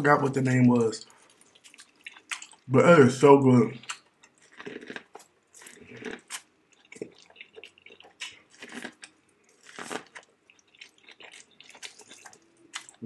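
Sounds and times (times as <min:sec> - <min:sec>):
person chewing corn on the cob: 0:01.0 - 0:02.7, 0:03.8 - 0:13.0.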